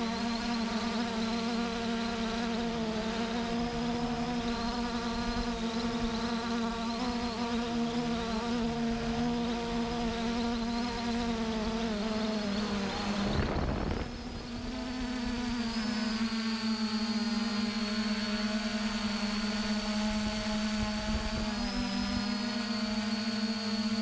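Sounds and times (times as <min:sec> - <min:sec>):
drone motors whirring: 0:00.0 - 0:24.0.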